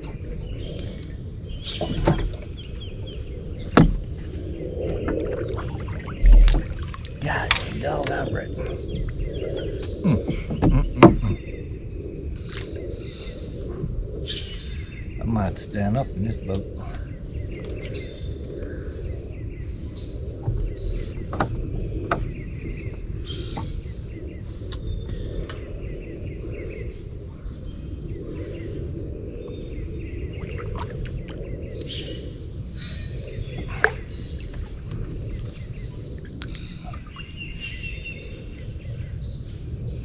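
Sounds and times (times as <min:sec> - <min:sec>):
steady low rumble: 0:00.0 - 0:40.0
wild birds chirping and calling: 0:00.0 - 0:40.0.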